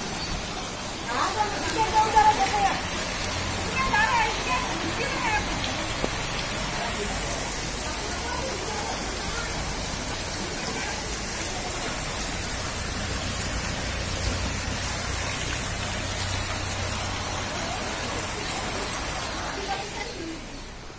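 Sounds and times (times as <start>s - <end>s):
heavy rain and floodwater hiss: 0.0s - 20.9s.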